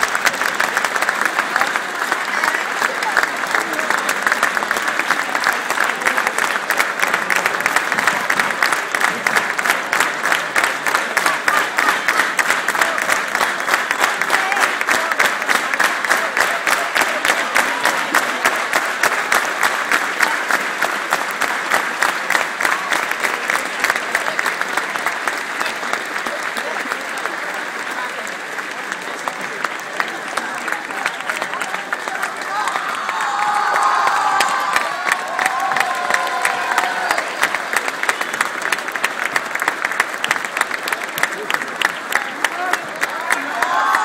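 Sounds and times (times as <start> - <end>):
crowd applauding: 0.0 - 44.0.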